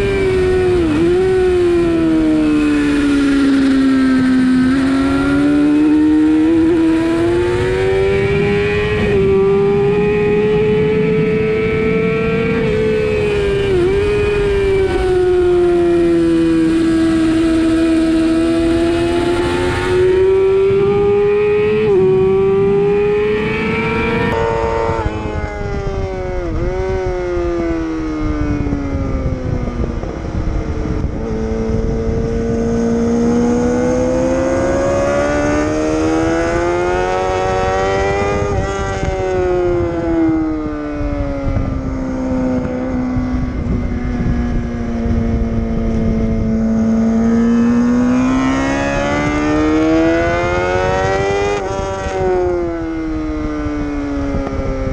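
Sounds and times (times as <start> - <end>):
heavy wind noise: 0.0 - 54.9
motorcycle engine at high revs: 0.0 - 54.9.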